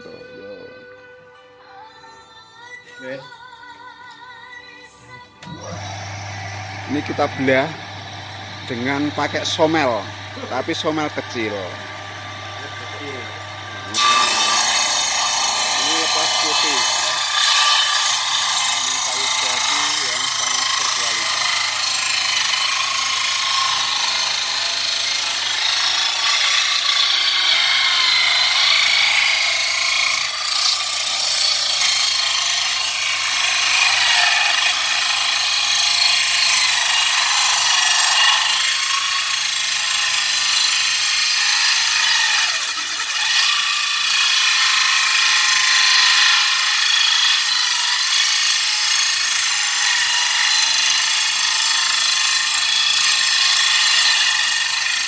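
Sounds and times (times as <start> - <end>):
circular saw ripping wood: 5.4 - 55.0.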